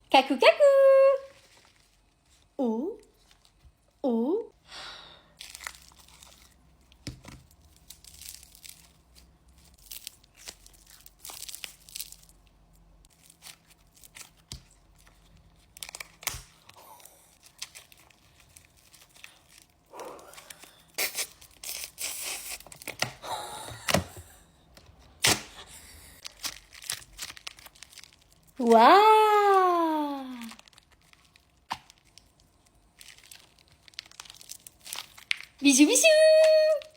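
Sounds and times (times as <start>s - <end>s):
slime squishy crinkling and tearing: 1.3s - 3.9s, 5.4s - 23.2s, 26.2s - 36.9s.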